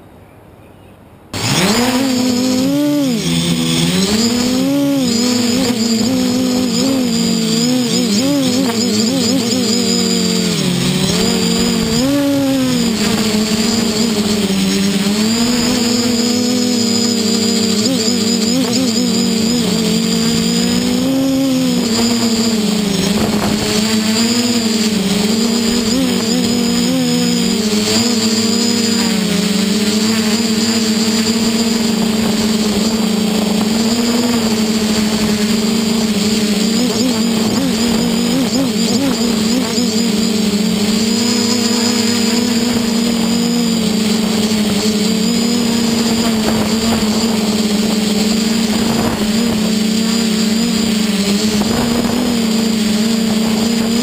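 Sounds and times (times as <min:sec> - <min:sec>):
drone motors buzzing: 0:01.3 - 0:54.0
high electric whine: 0:01.3 - 0:54.0.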